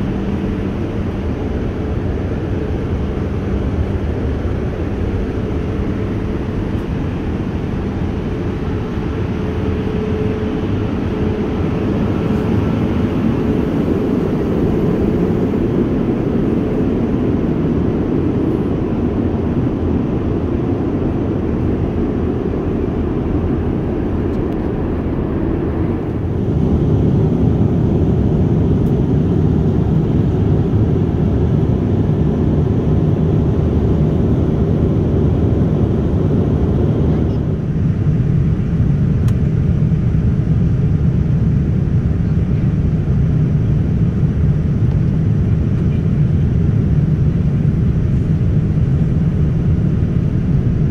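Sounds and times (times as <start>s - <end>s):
airliner cabin roar: 0.0s - 50.9s.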